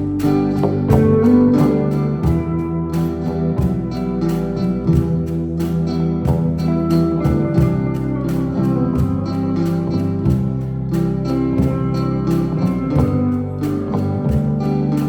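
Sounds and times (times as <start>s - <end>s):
guitar music with steady beat: 0.0s - 15.0s.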